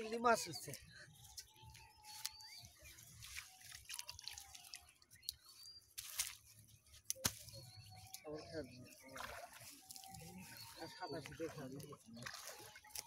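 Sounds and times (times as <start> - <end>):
water dripping and splashing: 1.5 - 13.0.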